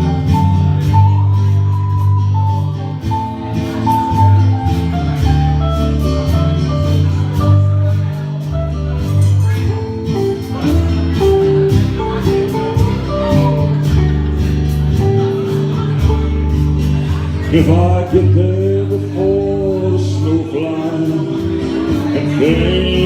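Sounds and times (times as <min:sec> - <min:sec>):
guitar accompaniment: 0:00.0 - 0:23.0
plucked melody notes: 0:00.0 - 0:23.0
steady bass line: 0:00.0 - 0:23.0.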